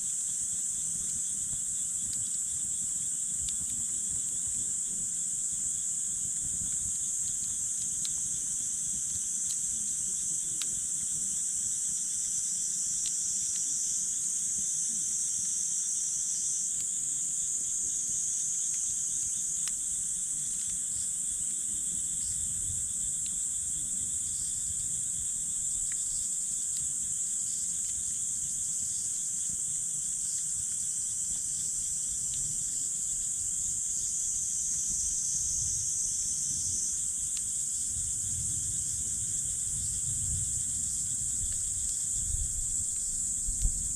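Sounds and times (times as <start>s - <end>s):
crickets trilling: 0.0s - 43.9s
campfire crackling: 0.2s - 43.9s.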